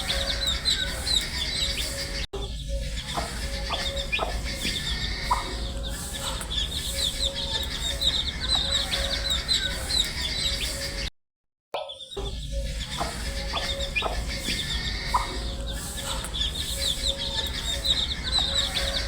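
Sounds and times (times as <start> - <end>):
baby chicks peeping: 0.0 - 11.1, 11.9 - 19.0.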